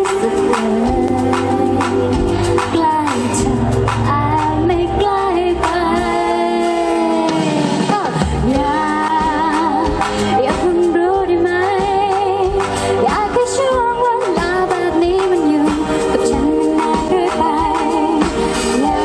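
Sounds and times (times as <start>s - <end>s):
live band playing: 0.0s - 19.0s
woman singing into a microphone: 0.0s - 19.0s.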